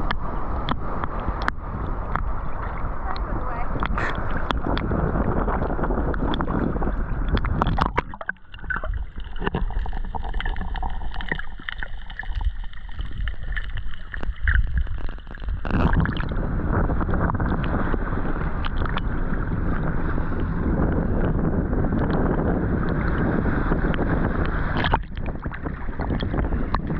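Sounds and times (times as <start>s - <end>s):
wind buffeting microphone: 0.0s - 11.4s, 12.1s - 26.9s
ocean water splashing: 0.0s - 26.9s.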